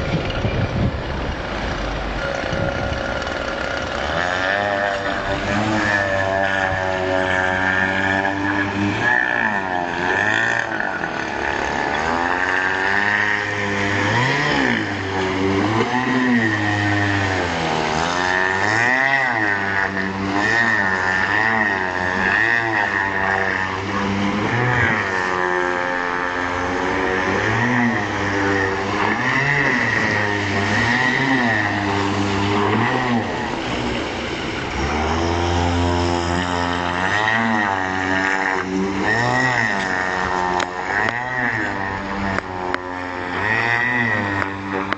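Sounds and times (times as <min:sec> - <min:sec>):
model speedboat engine: 0:00.0 - 0:44.9.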